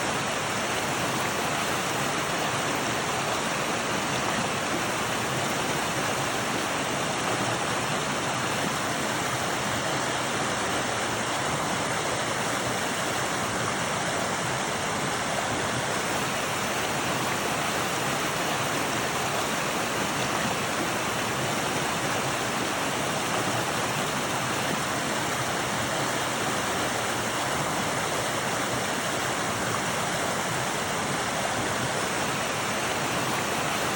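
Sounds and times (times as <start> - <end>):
rushing stream water: 0.0 - 33.9.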